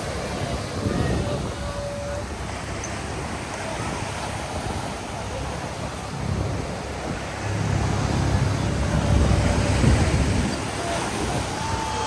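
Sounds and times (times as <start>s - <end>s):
surf rushing: 0.0s - 12.0s
wind noise on microphone: 0.0s - 12.0s.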